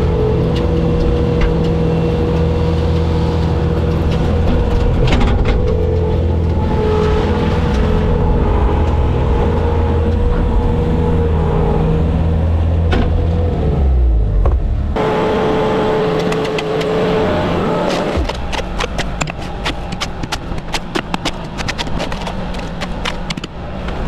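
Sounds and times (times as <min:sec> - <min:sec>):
hydraulic whine: 0:00.0 - 0:20.2
diesel engine rumbling: 0:00.0 - 0:24.0.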